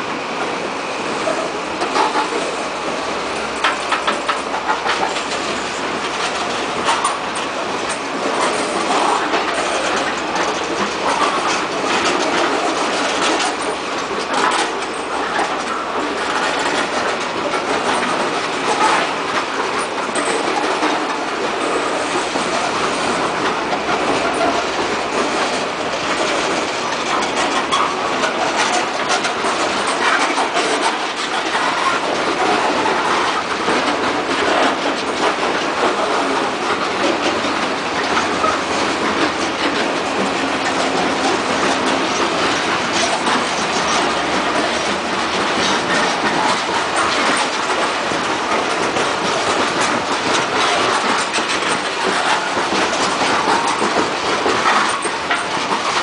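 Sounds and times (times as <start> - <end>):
freight cars clanking: 0.0 - 56.0
train wheels rolling on rails: 0.0 - 56.0.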